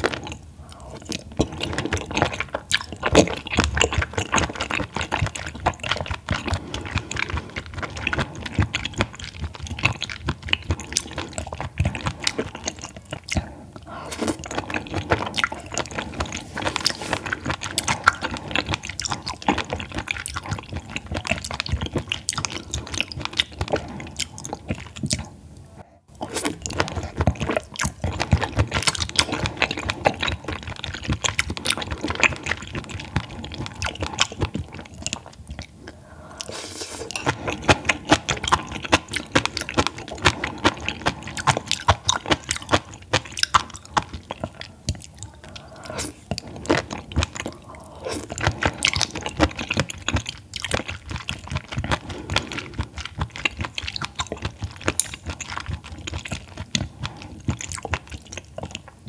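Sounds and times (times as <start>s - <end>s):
chewing and biting crunches: 0.0s - 25.4s, 26.2s - 59.0s.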